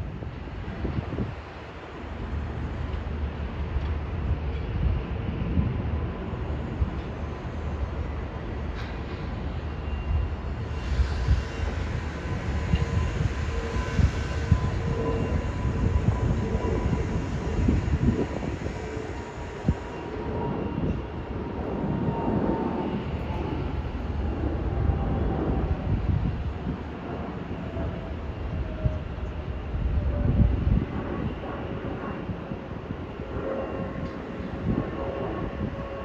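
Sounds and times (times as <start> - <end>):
faint jet engine whine: 0.0 - 36.0
jet airliner rumble: 0.0 - 36.0.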